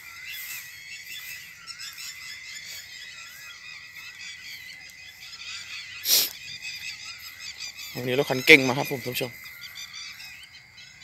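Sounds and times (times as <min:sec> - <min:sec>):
high trill of insects: 0:00.0 - 0:11.0
short warbling frog calls: 0:02.1 - 0:11.0.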